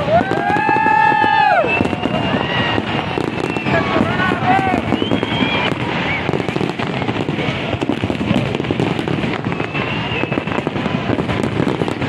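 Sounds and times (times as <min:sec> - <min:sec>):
crowd voices: 0:00.0 - 0:12.0
fireworks bangs and crackles: 0:00.0 - 0:12.0.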